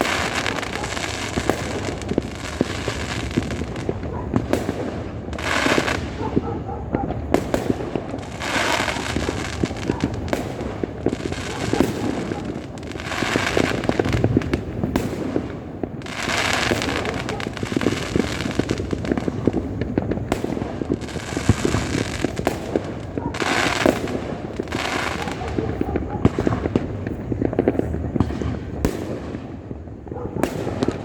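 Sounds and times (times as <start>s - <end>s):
fireworks popping and cracking: 0.0s - 31.0s.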